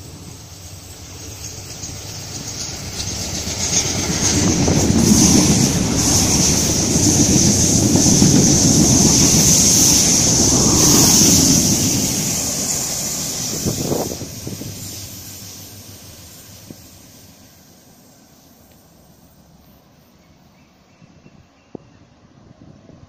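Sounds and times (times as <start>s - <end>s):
high hiss of train: 0.0s - 23.0s
train passing with rumble: 0.0s - 23.0s.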